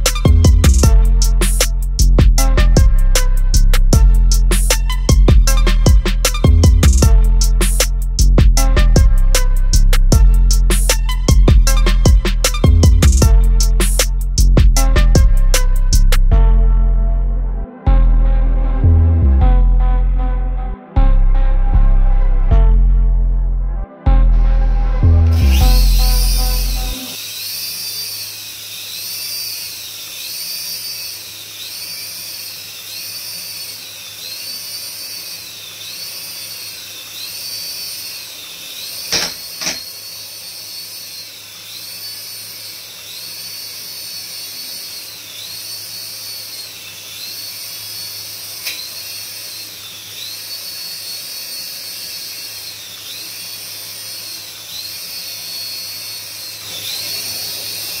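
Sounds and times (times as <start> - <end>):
toy helicopter motors whining: 0.0 - 8.3, 9.3 - 16.1, 24.4 - 58.0.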